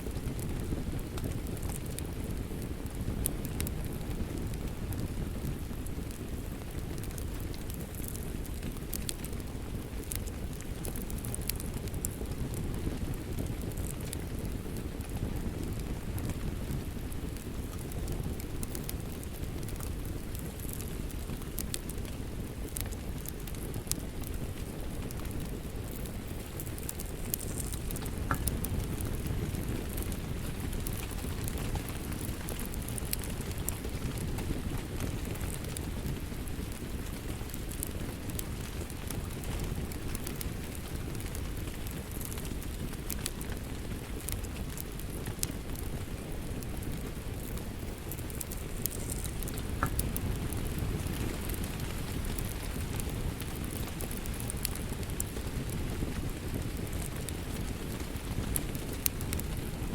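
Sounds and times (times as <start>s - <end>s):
rain pattering: 0.0s - 59.9s
wood fire crackling and popping: 0.0s - 59.9s.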